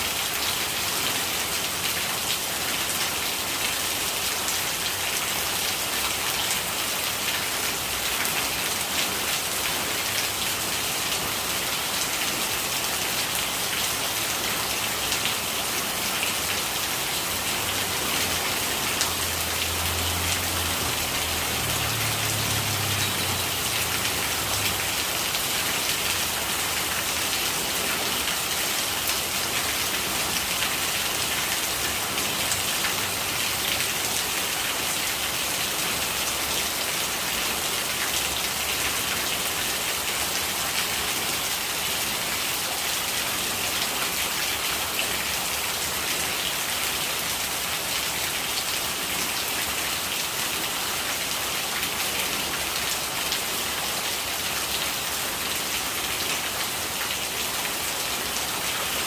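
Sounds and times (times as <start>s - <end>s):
rainwater gurgling: 0.0s - 59.0s
steady rain: 0.0s - 59.0s.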